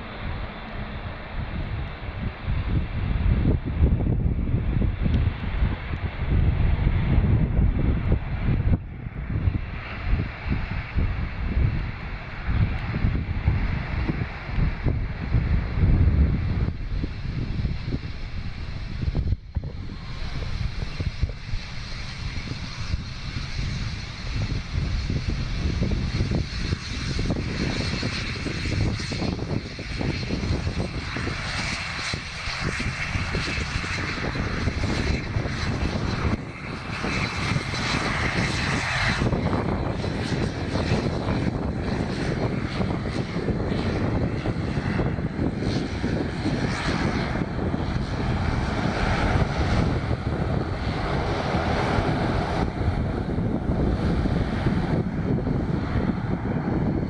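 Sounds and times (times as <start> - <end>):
turboprop engines whining: 0.0 - 57.0
wind buffeting microphone: 0.0 - 57.0.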